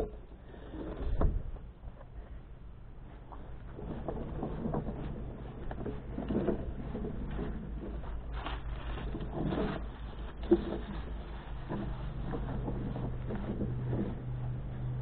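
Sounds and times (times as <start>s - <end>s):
wheelbarrow wheel rolling: 0.0s - 2.4s, 3.0s - 15.0s.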